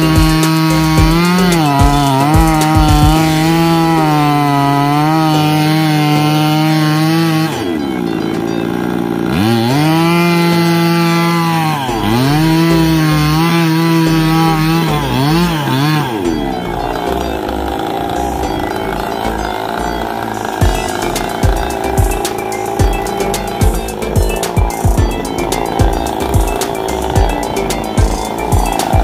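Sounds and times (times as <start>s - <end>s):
chainsaw cutting log: 0.0s - 29.0s.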